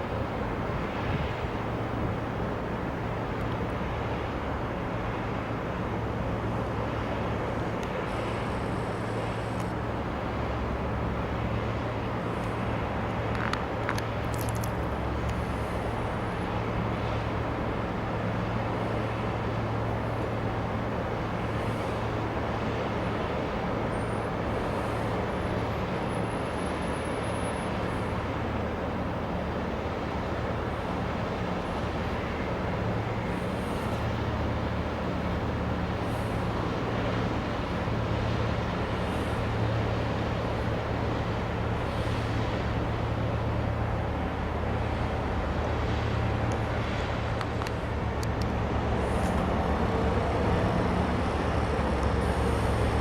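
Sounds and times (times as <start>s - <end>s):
constant noisy hiss: 0.0s - 53.0s
low engine drone: 0.0s - 53.0s.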